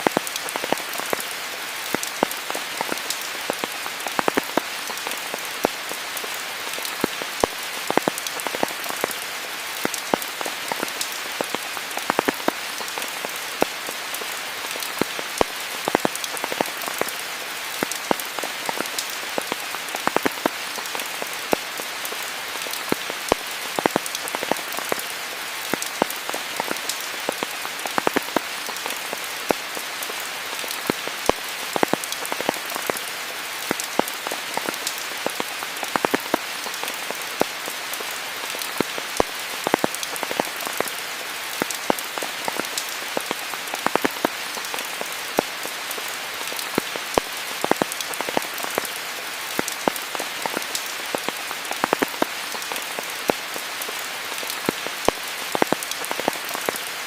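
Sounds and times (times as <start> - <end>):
sharp raindrops landing close: 0.0 - 57.0
steady rainfall: 0.0 - 57.0.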